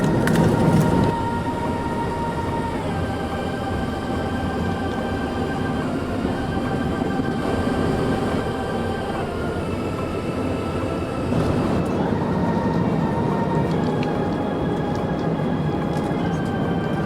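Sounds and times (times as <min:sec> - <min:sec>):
airliner cabin rumble: 0:00.0 - 0:17.0
high whining tones: 0:00.0 - 0:17.0.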